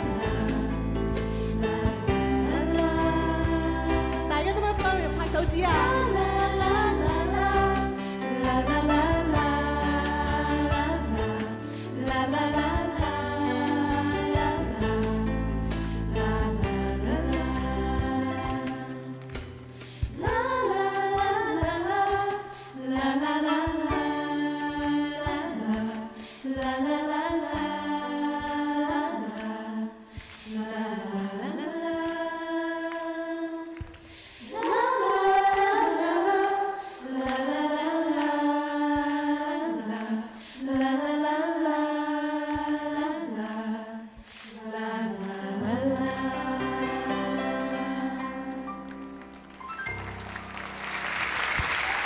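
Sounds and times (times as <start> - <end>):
group singing in harmony: 0.0 - 49.4.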